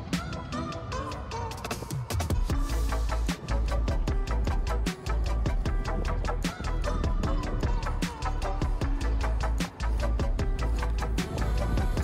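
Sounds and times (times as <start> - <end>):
music with fast beat and bass: 0.0 - 12.0.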